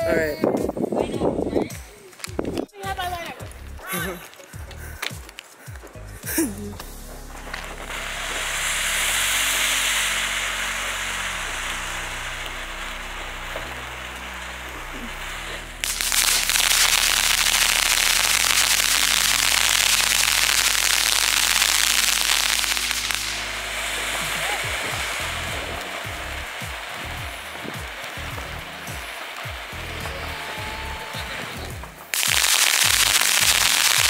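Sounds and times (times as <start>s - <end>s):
firework hissing and crackling: 0.0s - 34.0s.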